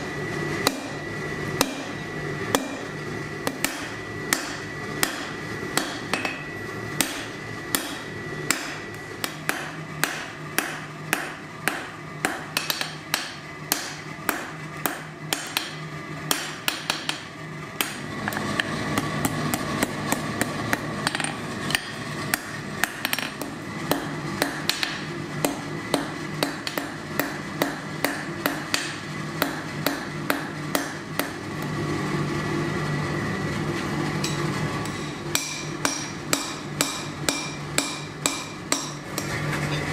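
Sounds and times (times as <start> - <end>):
hammer striking metal on anvil: 0.6 - 1.0, 1.6 - 18.0, 19.2 - 31.4, 34.2 - 39.9.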